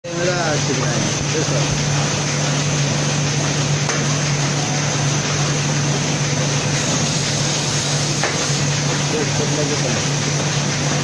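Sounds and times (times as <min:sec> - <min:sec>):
binding machine running: 0:00.1 - 0:11.0.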